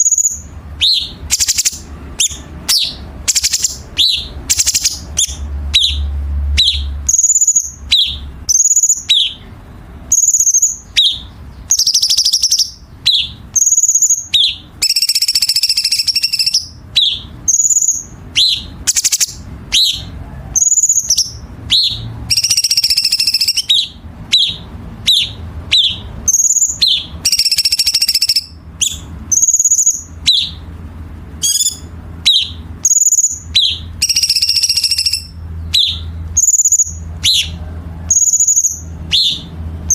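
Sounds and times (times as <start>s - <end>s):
bird rattling trills: 0.0s - 6.0s, 10.1s - 30.6s, 31.4s - 39.9s
bird whistling sharp notes: 0.0s - 9.4s, 10.2s - 30.6s, 31.4s - 39.5s.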